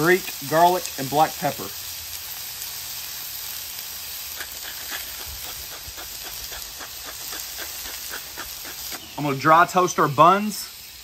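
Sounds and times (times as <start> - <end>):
vegetables sizzling on griddle: 0.0 - 11.0.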